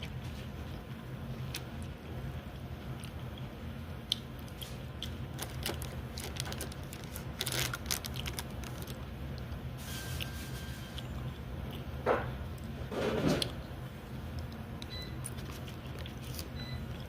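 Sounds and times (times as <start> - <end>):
person chewing: 0.0 - 9.6, 10.2 - 11.9, 14.3 - 17.0
steady low hum: 0.0 - 17.0.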